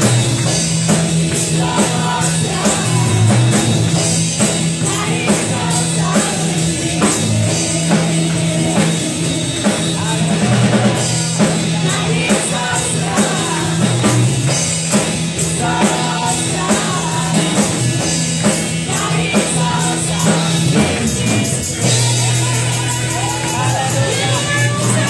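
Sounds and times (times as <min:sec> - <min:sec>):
bass notes: 0:00.0 - 0:25.0
drums: 0:00.0 - 0:25.0
women singing: 0:00.0 - 0:25.0.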